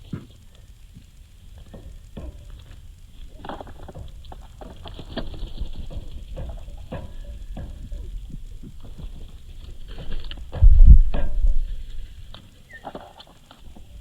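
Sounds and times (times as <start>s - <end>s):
birds pecking and hopping: 0.0s - 14.0s.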